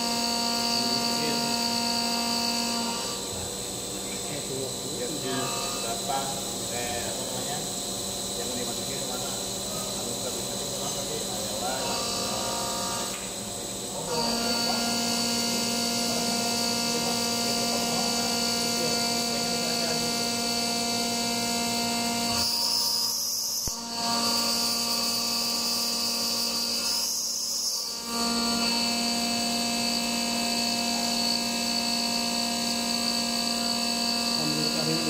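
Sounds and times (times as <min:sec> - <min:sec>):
milling machine whine: 0:00.0 - 0:35.0.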